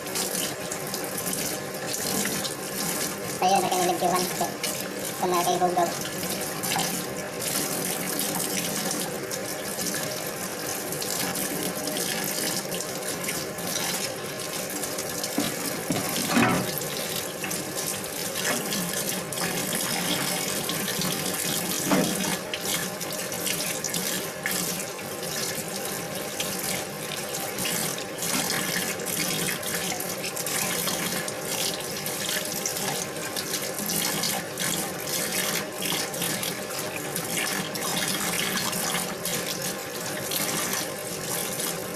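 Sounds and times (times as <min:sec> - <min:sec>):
tap water running into sink: 0:00.0 - 0:41.9.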